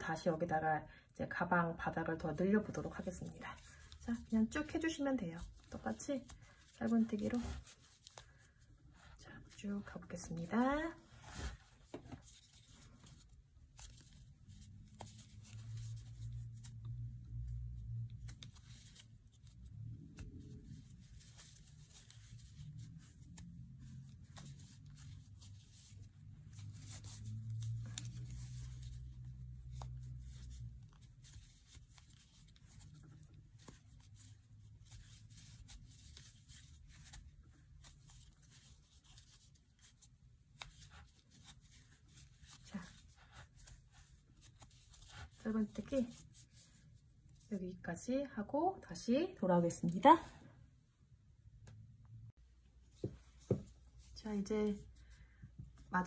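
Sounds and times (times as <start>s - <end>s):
yarn rustling and scratching: 2.4s - 47.5s.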